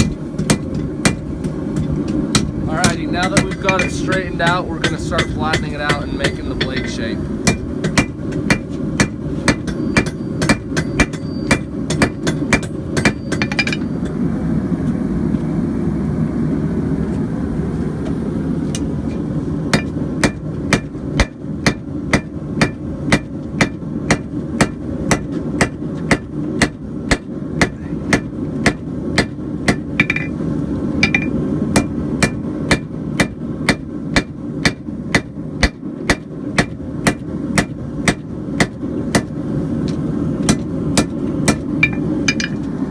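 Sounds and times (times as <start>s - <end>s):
hammer striking steel: 0.0s - 14.2s, 19.7s - 30.4s, 31.0s - 39.4s, 40.4s - 42.7s.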